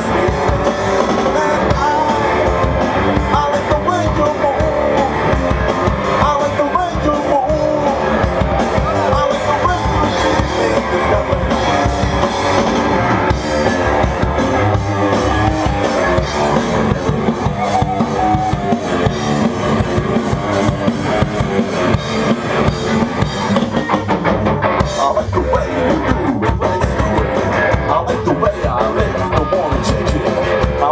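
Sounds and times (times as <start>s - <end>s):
driving drum kit: 0.0s - 30.9s
electric guitars: 0.0s - 30.9s.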